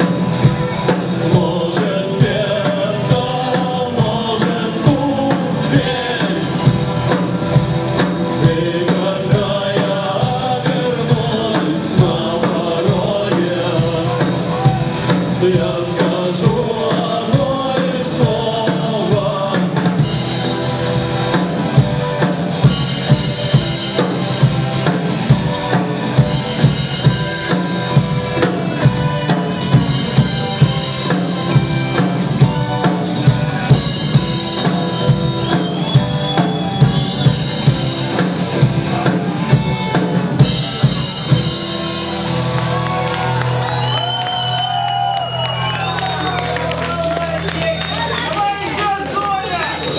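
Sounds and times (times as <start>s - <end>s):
drum kit beat: 0.0s - 47.4s
live rock band playing: 0.0s - 49.9s.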